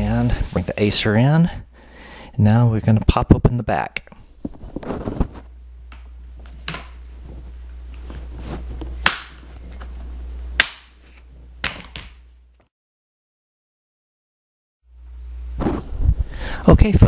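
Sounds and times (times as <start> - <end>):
low steady hum: 0.0 - 12.6, 14.9 - 17.0.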